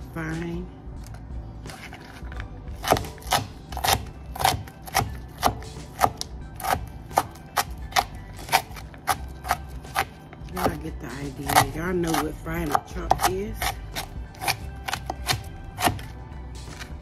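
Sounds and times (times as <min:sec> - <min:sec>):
knife chopping celery on cutting mat: 0:01.7 - 0:17.0.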